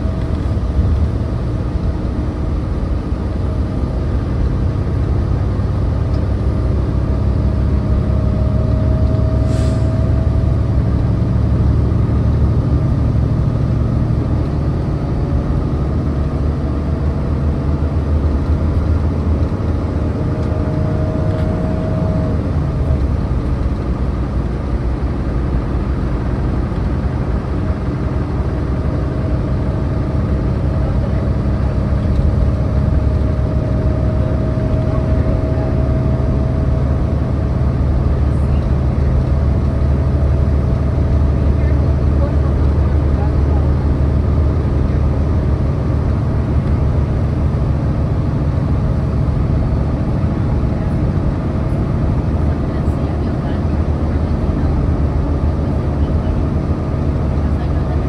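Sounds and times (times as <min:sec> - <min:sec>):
bus engine rumble: 0:00.0 - 0:58.0.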